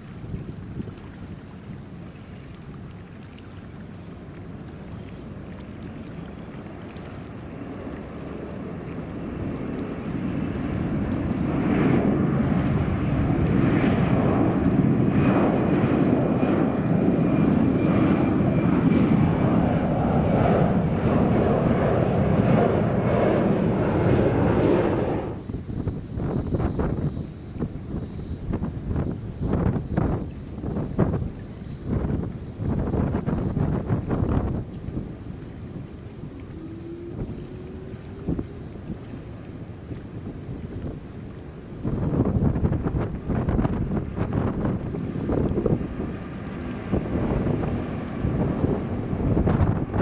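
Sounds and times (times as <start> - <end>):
jet engines roaring: 5.5 - 50.0.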